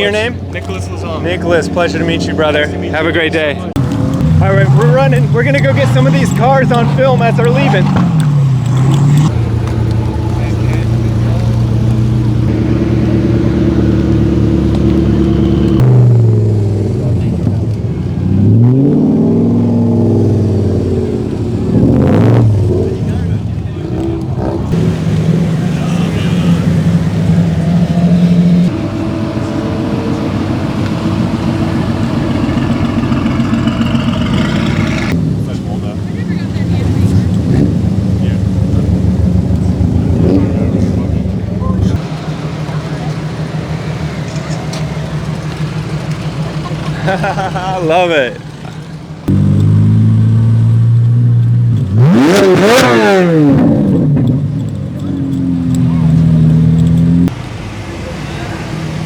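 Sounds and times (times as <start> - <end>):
car engine driving off: 0.0 - 59.0.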